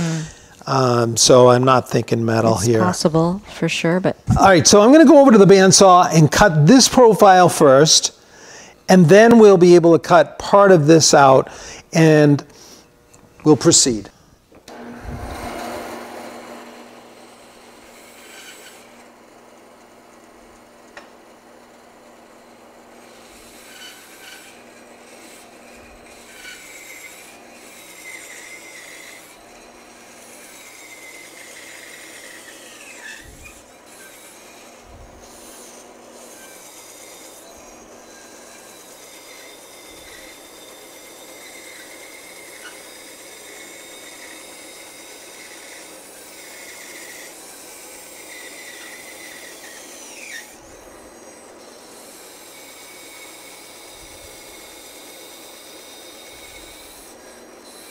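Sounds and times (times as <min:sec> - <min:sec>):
bandsaw cutting wood: 0:00.0 - 0:03.4, 0:04.3 - 0:12.8, 0:14.7 - 0:57.9.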